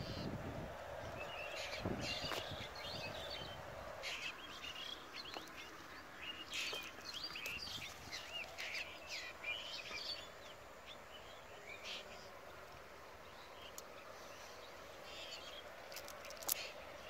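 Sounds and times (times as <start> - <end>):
faint background hiss: 0.0 - 17.0
small birds chirping: 1.0 - 17.0.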